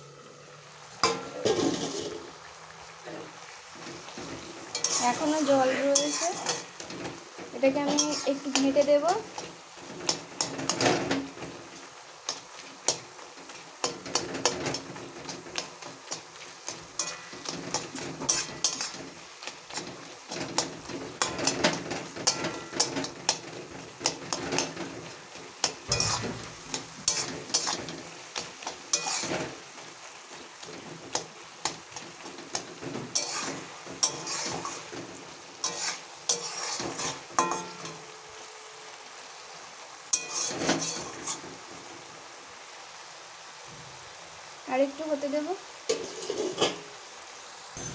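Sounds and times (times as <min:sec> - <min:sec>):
steady sizzle: 0:00.0 - 0:47.9
metal spatula scraping a pan: 0:01.0 - 0:38.7, 0:40.1 - 0:41.9, 0:45.9 - 0:47.0.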